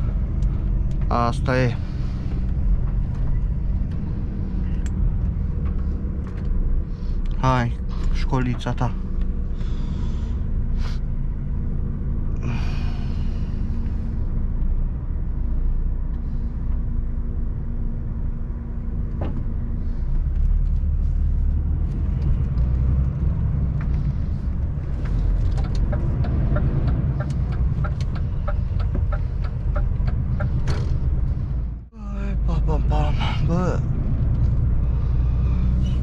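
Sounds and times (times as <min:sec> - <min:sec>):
diesel engine running: 0:00.0 - 0:36.0
road rumble: 0:00.0 - 0:36.0.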